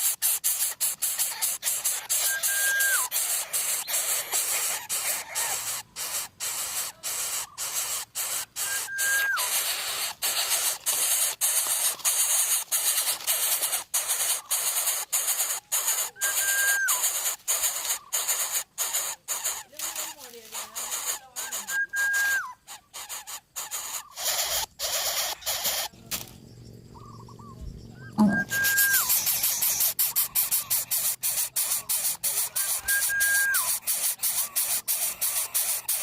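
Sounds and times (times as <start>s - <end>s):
nestlings hissing: 0.0s - 36.0s.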